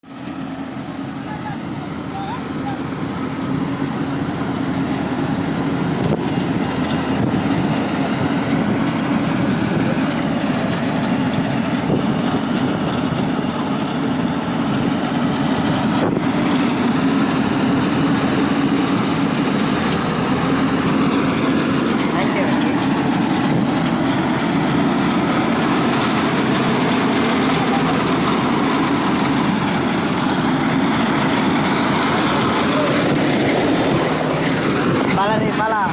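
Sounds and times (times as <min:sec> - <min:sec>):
harvester engine running: 0:00.0 - 0:35.9.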